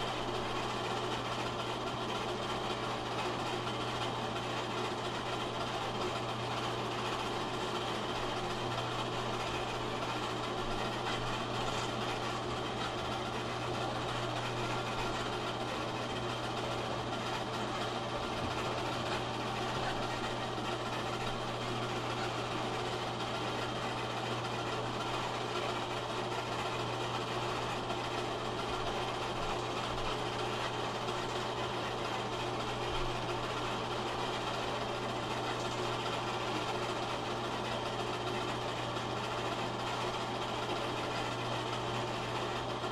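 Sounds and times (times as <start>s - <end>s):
film projector running: 0.0s - 42.9s.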